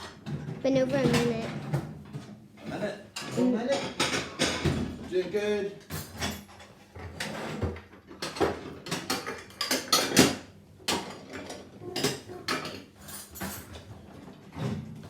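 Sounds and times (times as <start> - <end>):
dishes and cutlery clattering: 0.0 - 15.0.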